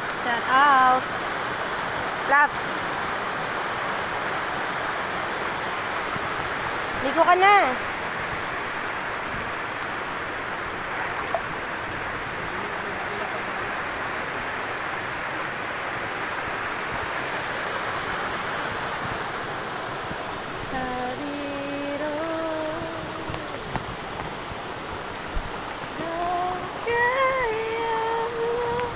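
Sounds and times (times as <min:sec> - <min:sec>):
waterfall cascading into pool: 0:00.0 - 0:28.9.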